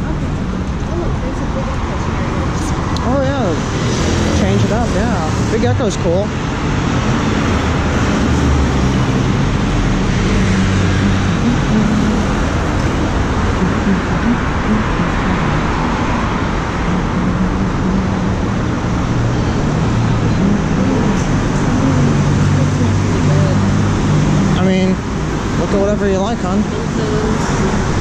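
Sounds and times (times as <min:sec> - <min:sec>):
cars passing on wet street: 0:00.0 - 0:28.0.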